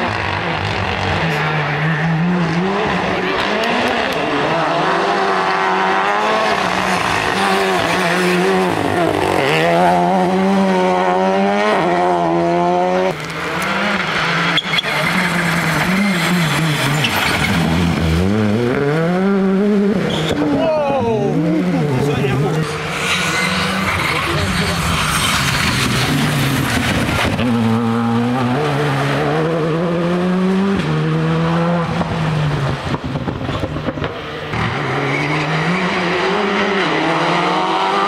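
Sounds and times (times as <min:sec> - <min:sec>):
rally car engine revving: 0:00.0 - 0:38.0.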